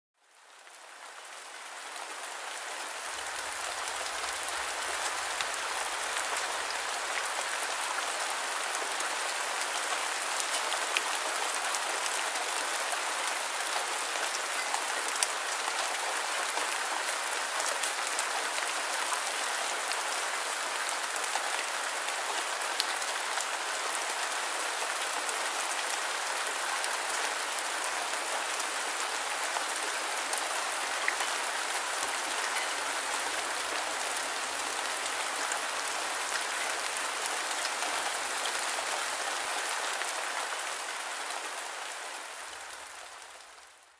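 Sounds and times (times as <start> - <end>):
steady rainfall: 0.2 - 43.9.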